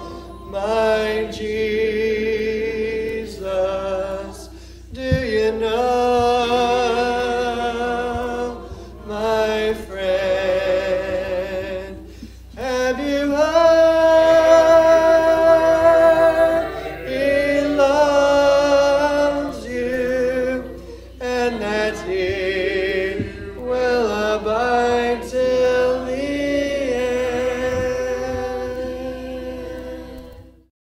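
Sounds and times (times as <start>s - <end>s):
congregation singing a hymn: 0.0s - 30.7s.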